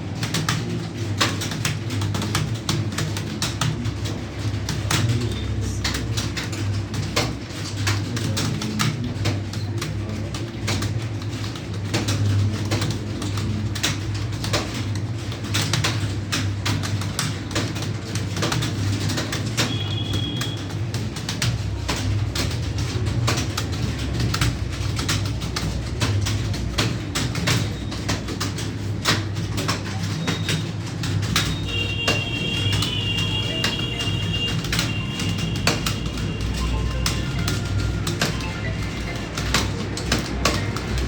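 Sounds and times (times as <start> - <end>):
keyboard keys clicking: 0.0 - 41.0.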